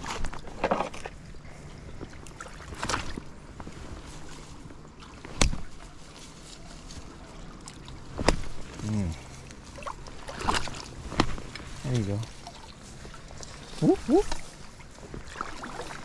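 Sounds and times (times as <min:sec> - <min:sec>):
river water running: 0:00.0 - 0:16.0
water splashes: 0:02.0 - 0:03.5, 0:04.1 - 0:16.0.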